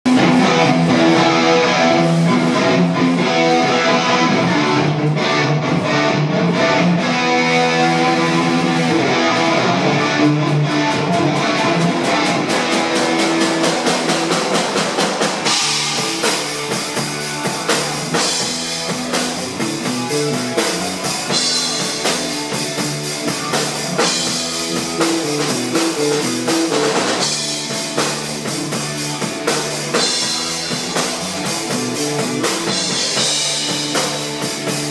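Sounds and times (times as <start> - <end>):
drum kit: 0.0 - 34.9
rock music with guitar: 0.0 - 34.9.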